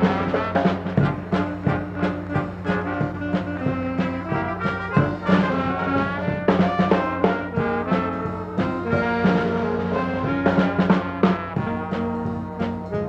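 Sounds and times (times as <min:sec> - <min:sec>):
brass band music: 0:00.0 - 0:13.0.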